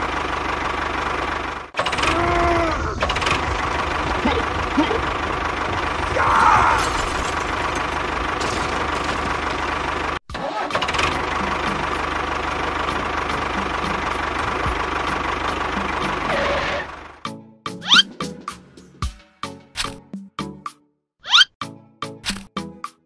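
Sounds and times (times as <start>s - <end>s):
tractor engine running: 0.0s - 18.6s.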